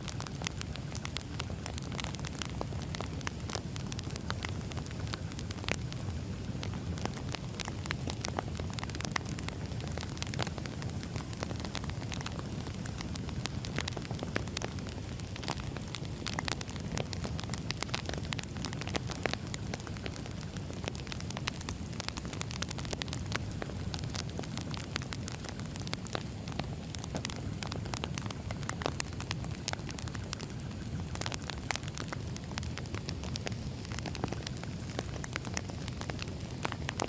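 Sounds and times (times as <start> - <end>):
firewood crackling: 0.0 - 37.0
low rumble of flames: 0.0 - 37.0.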